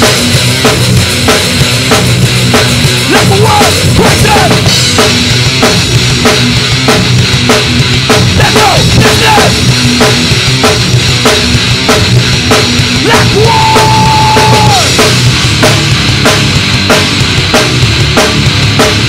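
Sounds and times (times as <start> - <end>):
death metal band playing: 0.0 - 19.0
fast drum kit: 0.0 - 19.0.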